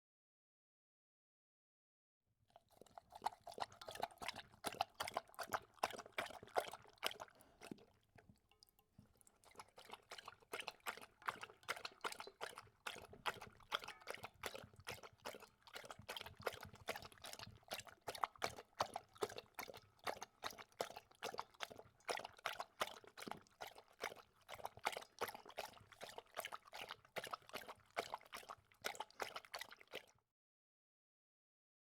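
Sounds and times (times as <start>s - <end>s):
dog lapping water: 2.5s - 30.2s.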